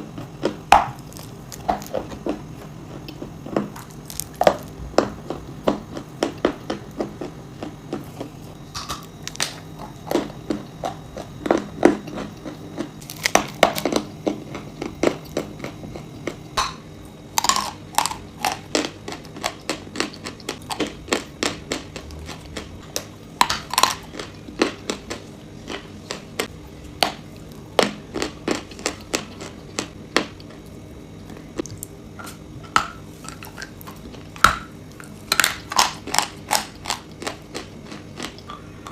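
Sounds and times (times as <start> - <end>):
crunchy food being chewed: 0.0 - 38.9.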